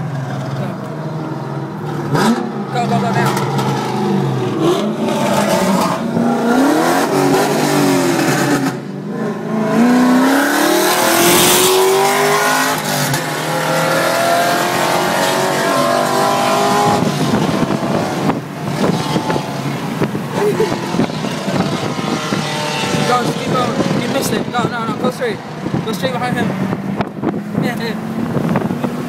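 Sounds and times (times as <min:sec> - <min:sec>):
car engine accelerating hard: 0:00.0 - 0:29.0.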